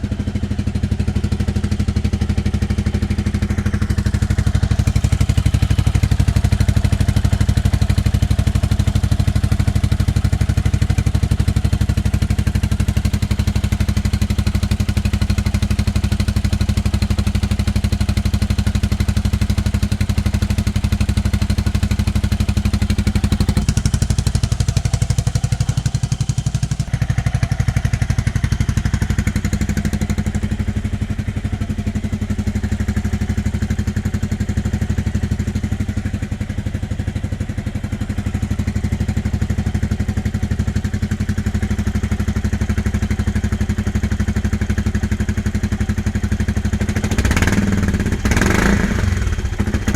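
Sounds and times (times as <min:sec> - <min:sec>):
scooter engine idling: 0:00.0 - 0:49.9.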